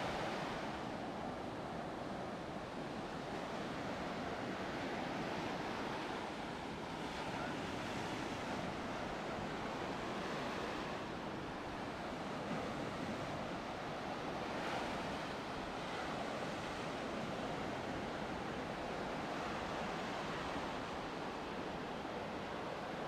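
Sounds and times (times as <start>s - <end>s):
ocean surf washing onto beach: 0.0s - 23.0s.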